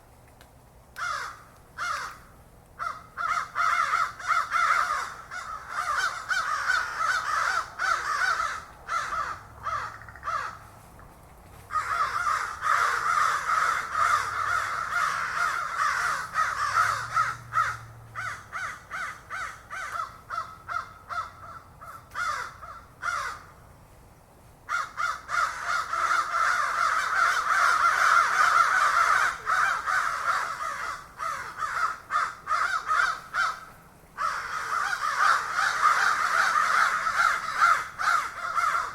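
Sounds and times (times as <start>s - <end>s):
crows cawing: 1.0s - 10.8s, 11.6s - 23.6s, 24.7s - 38.9s.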